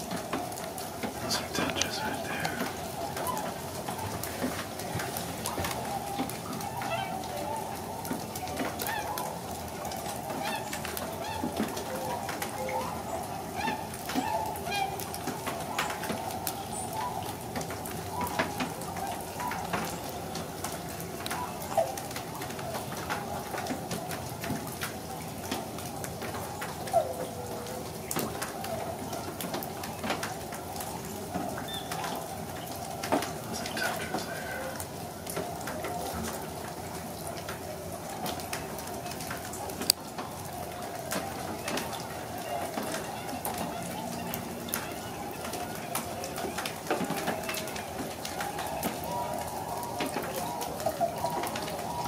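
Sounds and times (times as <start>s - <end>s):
flock of swans calling: 0.0s - 52.0s.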